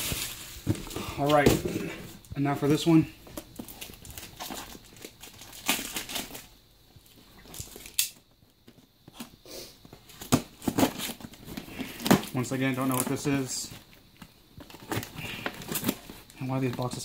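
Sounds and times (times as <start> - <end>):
cardboard packaging rustling: 0.0 - 8.0, 9.9 - 17.0.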